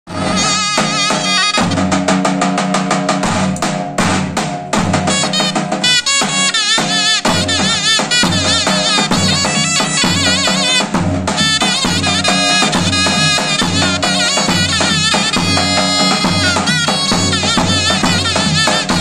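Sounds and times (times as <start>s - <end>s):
shawm playing folk melody: 0.1s - 3.2s, 4.8s - 19.0s
bass drum beating: 0.1s - 19.0s.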